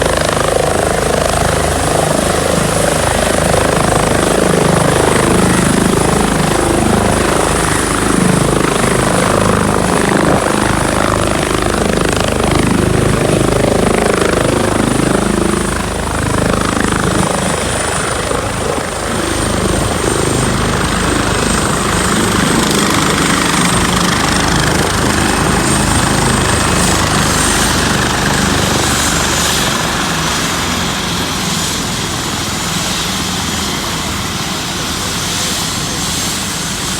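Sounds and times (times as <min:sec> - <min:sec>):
helicopter turbine and rotor: 0:00.0 - 0:36.9.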